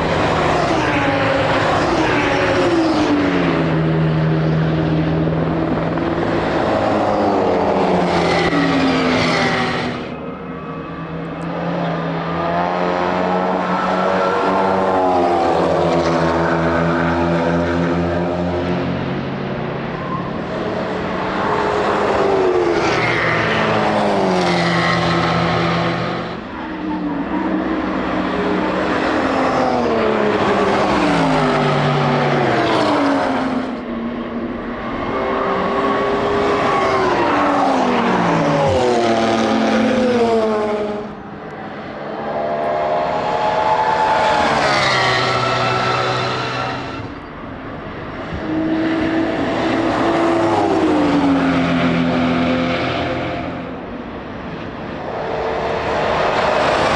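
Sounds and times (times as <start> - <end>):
racing cars passing by: 0.0 - 56.9.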